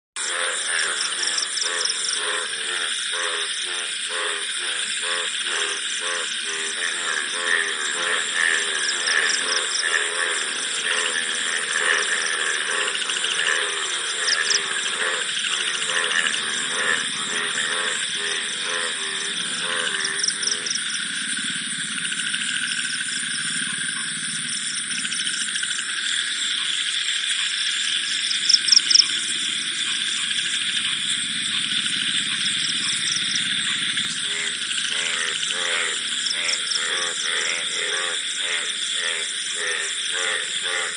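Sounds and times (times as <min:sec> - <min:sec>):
frogs calling in pulses: 0:00.2 - 0:40.9
insect trill: 0:00.2 - 0:40.9.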